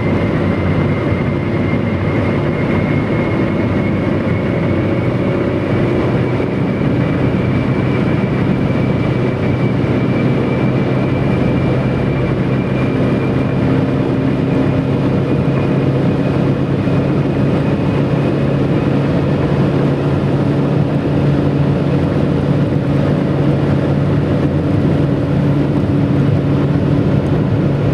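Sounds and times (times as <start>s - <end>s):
road roar: 0.0s - 27.9s.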